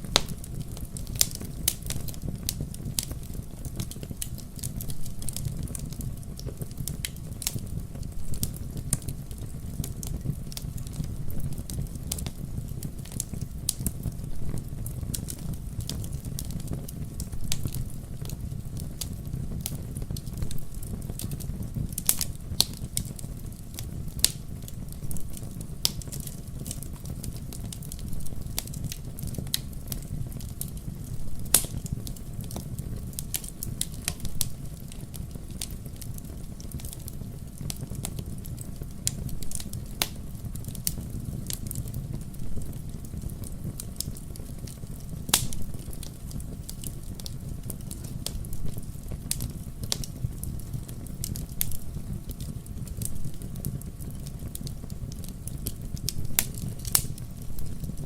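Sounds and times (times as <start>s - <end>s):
fire crackling and popping: 0.0s - 58.0s
wood fire rumbling: 0.0s - 58.0s.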